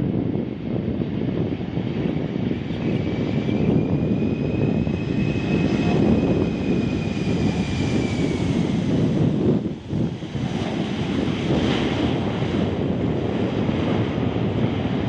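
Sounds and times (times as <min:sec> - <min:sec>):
jet engines rumbling and whining: 0:00.0 - 0:15.0.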